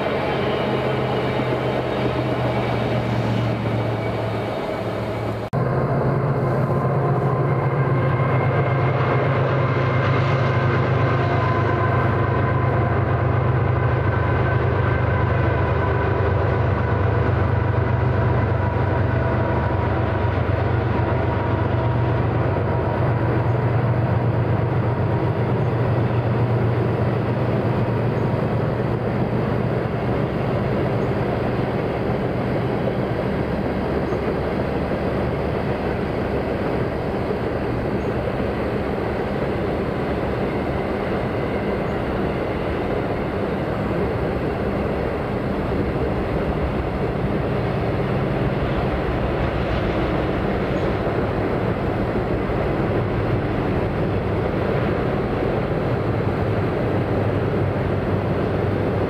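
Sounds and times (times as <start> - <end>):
train engine hum: 0.0 - 59.0
train wheels rolling on rails: 0.0 - 59.0.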